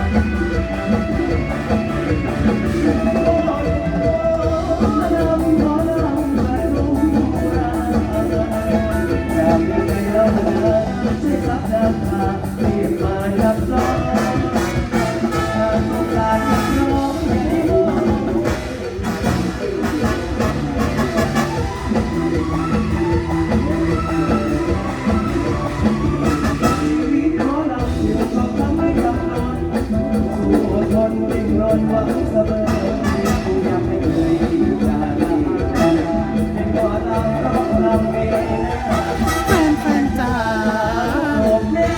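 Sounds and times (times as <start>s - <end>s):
band music through loudspeakers: 0.0s - 41.9s
person singing: 0.0s - 41.9s
steady drum beat: 0.0s - 41.9s.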